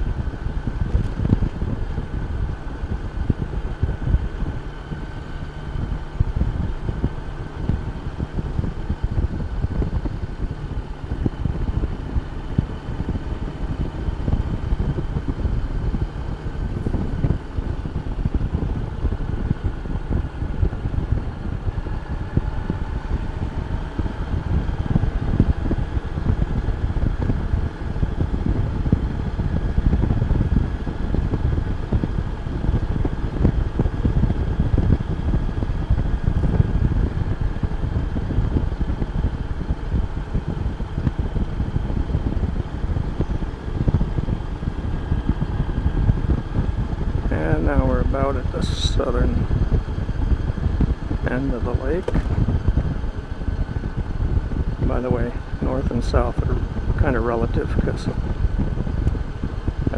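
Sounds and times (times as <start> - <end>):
motorcycle engine humming: 0.0 - 59.9
wind buffeting microphone: 0.0 - 59.9.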